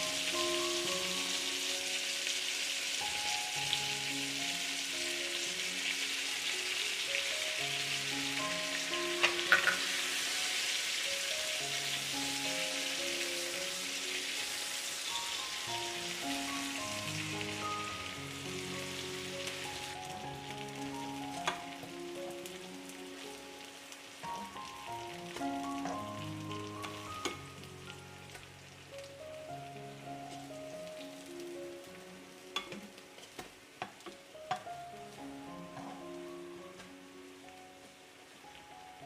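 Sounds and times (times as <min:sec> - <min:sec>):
food frying and sizzling: 0:00.0 - 0:39.0
slow background music: 0:00.0 - 0:39.0.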